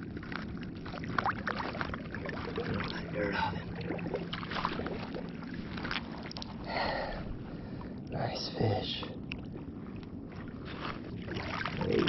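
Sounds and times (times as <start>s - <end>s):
steady low hum: 0.0s - 12.0s
water splashing and sloshing: 0.0s - 12.0s.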